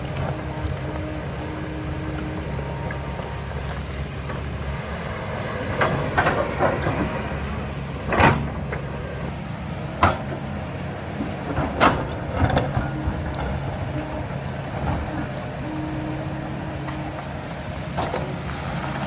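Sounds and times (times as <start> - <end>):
diesel engine running: 0.0 - 19.0
digger clanking and scraping rock: 0.0 - 19.0.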